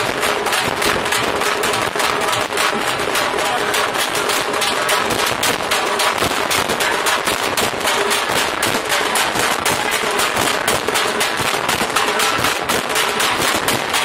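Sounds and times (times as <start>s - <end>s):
hand drums beaten fast: 0.0s - 14.0s.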